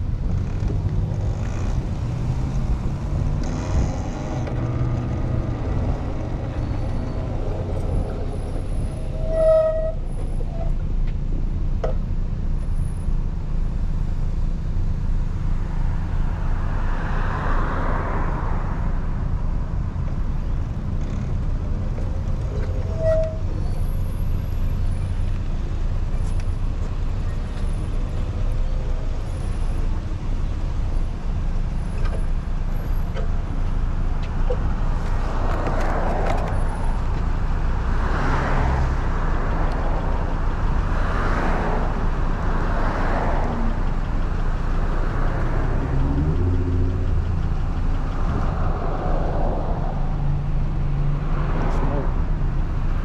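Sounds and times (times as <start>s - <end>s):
wind and road noise rumble: 0.0s - 53.0s.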